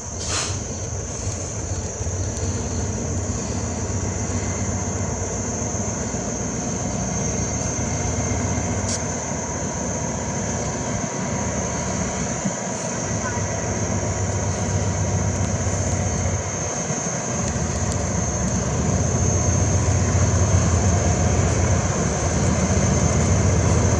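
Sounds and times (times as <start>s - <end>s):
diesel train engine droning: 0.0s - 23.9s
high whine: 0.0s - 23.9s.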